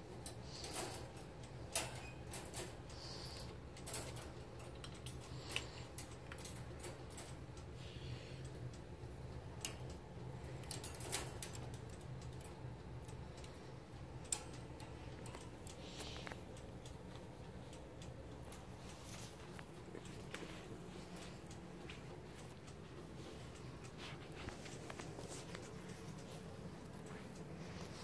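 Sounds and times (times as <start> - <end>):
steady low hum: 0.0 - 28.0
light clicks and taps: 0.1 - 28.0.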